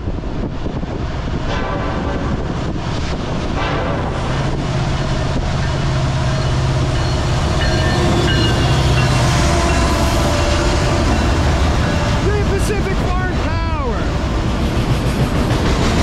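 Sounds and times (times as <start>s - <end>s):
diesel locomotives passing: 0.0s - 16.0s.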